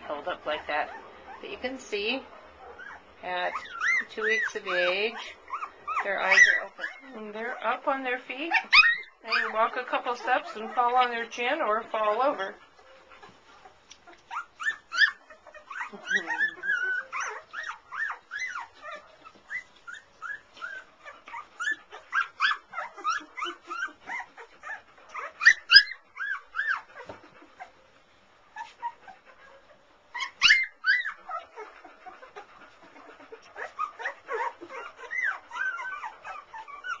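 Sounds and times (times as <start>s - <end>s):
puppies whimpering and squeaking: 0.0s - 37.0s
puppies yelping: 2.2s - 27.8s, 28.4s - 37.0s.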